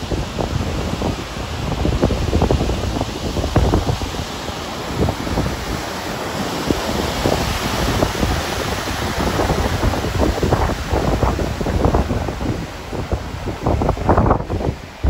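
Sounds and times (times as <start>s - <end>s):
tidal wave breaking and churning: 0.0s - 15.0s
wind buffeting microphone: 0.0s - 15.0s.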